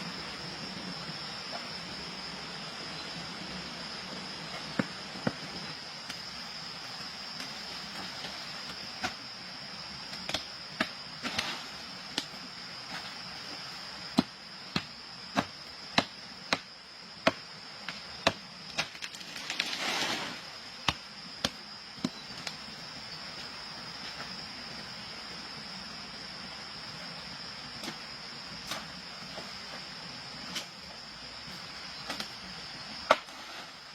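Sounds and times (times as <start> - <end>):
high insect drone: 0.0 - 33.9.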